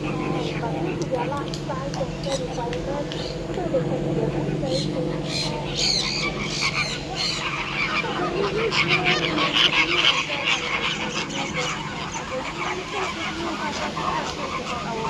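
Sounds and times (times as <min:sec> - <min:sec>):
birds calling in chorus: 0:00.0 - 0:15.0.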